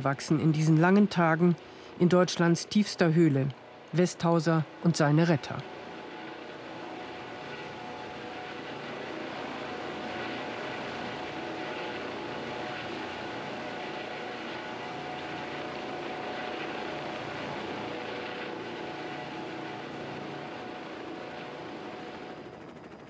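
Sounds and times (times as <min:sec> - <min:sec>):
helicopter engine and rotor: 0:00.0 - 0:23.0.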